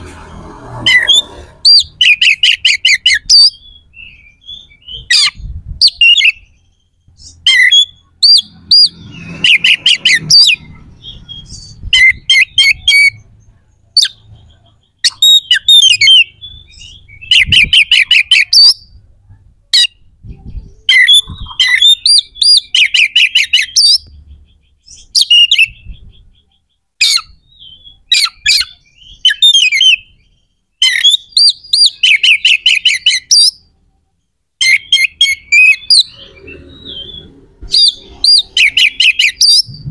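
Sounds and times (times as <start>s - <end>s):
magpie-robin singing harsh phrases: 0.9s - 13.4s, 14.0s - 19.0s, 19.7s - 33.7s, 34.6s - 39.9s.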